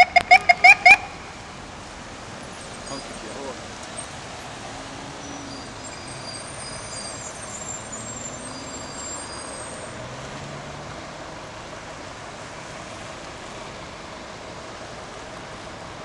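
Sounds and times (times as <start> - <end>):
cars driving past: 0.0 - 16.0
tyres hissing on wet pavement: 0.4 - 16.0.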